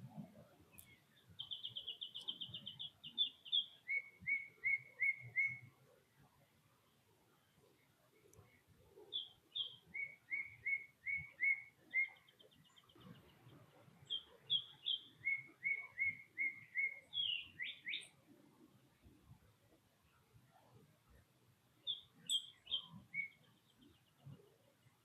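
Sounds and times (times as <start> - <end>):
songbird singing: 0.0 - 19.3, 20.0 - 25.0.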